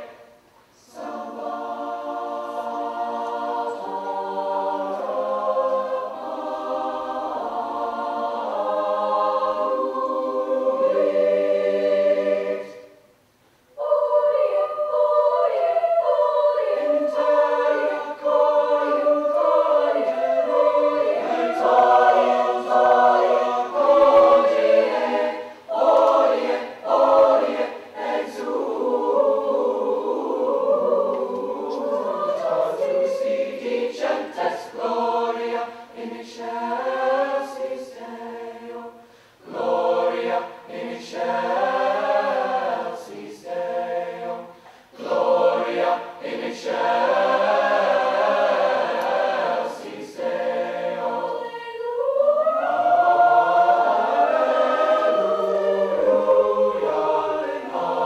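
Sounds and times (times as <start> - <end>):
choir singing: 0.0 - 13.1, 13.7 - 58.0.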